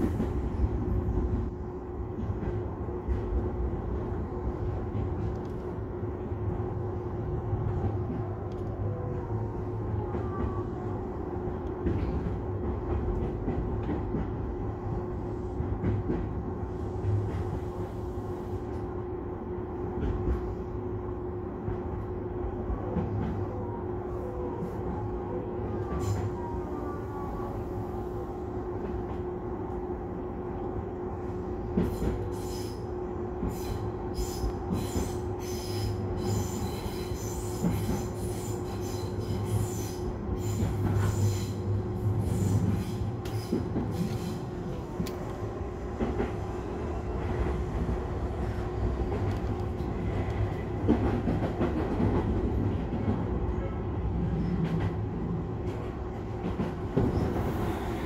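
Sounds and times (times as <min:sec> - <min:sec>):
train rumble and motor hum: 0:00.0 - 0:58.0.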